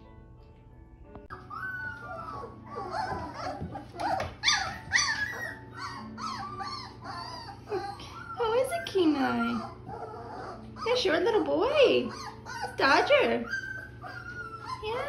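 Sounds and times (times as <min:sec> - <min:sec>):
puppy whining and yelping: 0:01.3 - 0:15.0.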